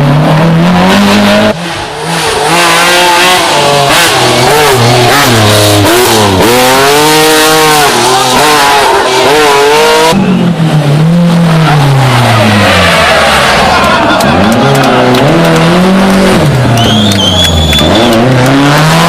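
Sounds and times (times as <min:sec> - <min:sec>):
rally car engine at full throttle: 0:00.0 - 0:19.0.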